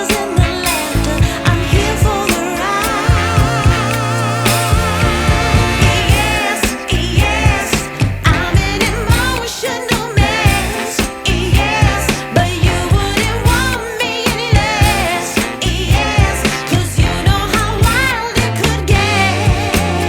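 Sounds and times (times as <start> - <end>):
song with vocal over driving beat: 0.0 - 20.0.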